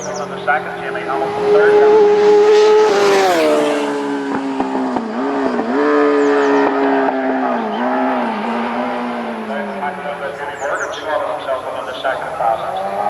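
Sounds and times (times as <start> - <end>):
motorcycle engine passing at speed: 0.0 - 13.0.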